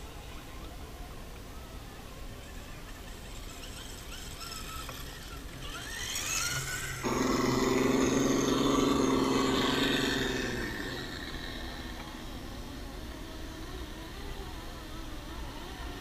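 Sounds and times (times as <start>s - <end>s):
electric motors whining: 2.4s - 16.0s.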